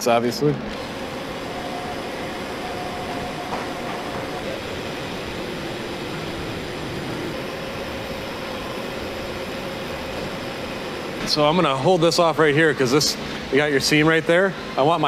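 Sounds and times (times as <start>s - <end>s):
machine shop hum and hiss: 0.0s - 15.0s.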